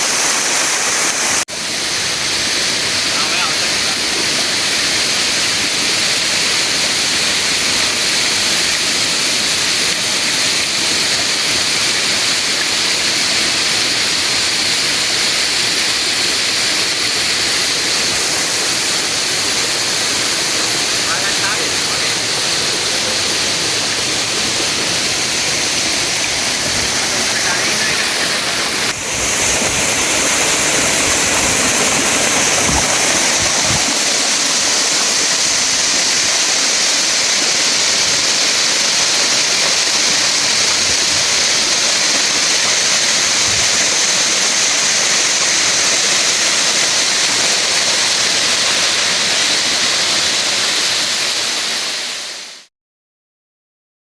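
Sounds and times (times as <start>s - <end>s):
waterfall rushing: 0.0s - 52.7s.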